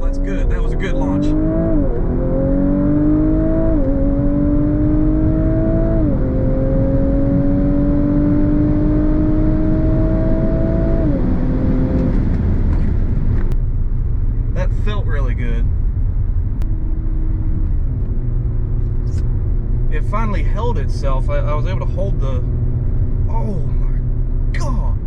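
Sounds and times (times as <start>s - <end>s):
car engine accelerating hard: 0.0s - 13.6s, 16.6s - 25.0s
road rumble: 0.0s - 25.0s.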